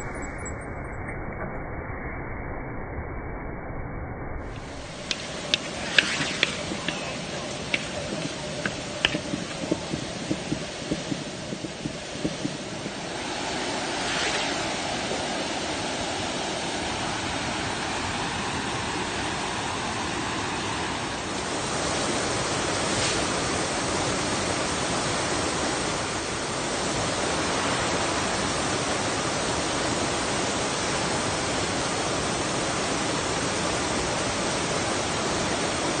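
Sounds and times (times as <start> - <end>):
waterfall rushing: 4.5 - 36.0.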